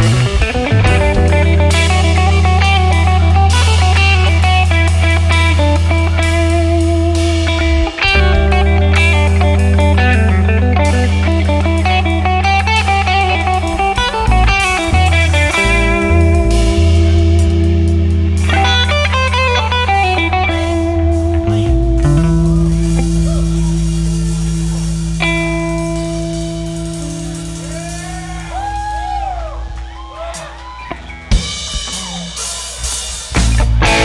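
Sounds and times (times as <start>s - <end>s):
electric guitar run: 0.0s - 29.6s, 33.4s - 34.0s
bending guitar tones: 0.0s - 34.0s
live rock band playing: 0.0s - 34.0s.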